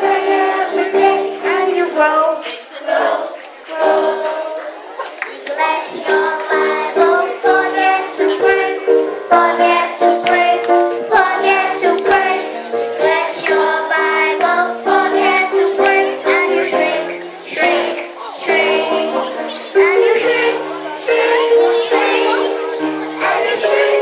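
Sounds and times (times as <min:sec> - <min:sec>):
held accompaniment chords: 0:00.0 - 0:02.4, 0:03.0 - 0:04.9, 0:05.8 - 0:24.0
children singing: 0:00.0 - 0:04.8, 0:05.4 - 0:24.0.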